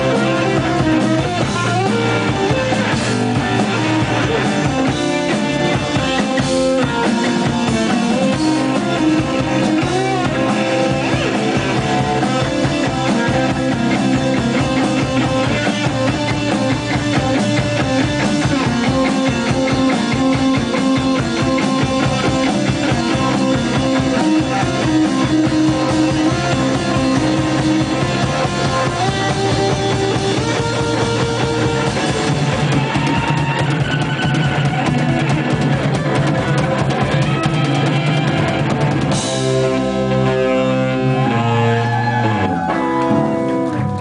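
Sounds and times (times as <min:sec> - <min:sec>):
fast drumming: 0:00.0 - 0:40.3
rock band playing live: 0:00.0 - 0:44.0
sliding guitar notes: 0:00.0 - 0:44.0.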